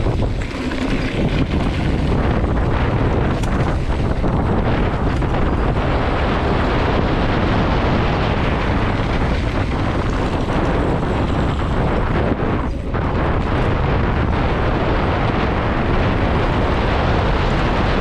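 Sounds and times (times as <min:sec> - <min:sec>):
bike tyres on dirt road: 0:00.0 - 0:18.0
wind on microphone: 0:00.0 - 0:18.0.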